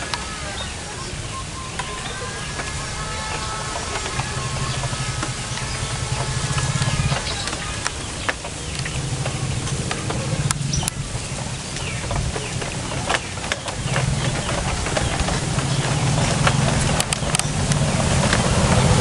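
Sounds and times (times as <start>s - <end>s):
low motor engine hum: 0.0s - 19.0s
small birds chirping: 0.0s - 19.0s.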